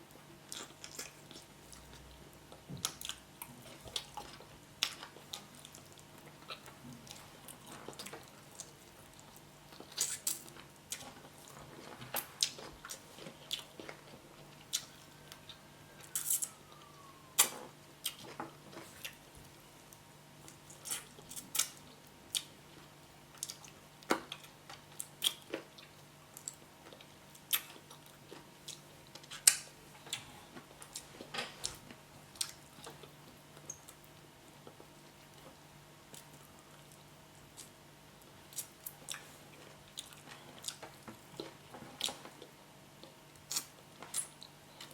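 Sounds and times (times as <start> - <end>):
faint steady hum: 0.0 - 44.9
chewing food: 0.2 - 44.9.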